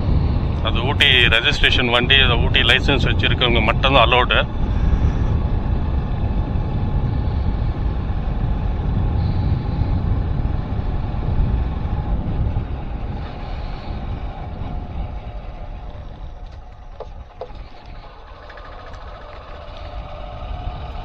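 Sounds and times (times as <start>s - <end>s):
vehicle driving on road: 0.0s - 21.0s
wind rumbling on microphone: 0.0s - 21.0s.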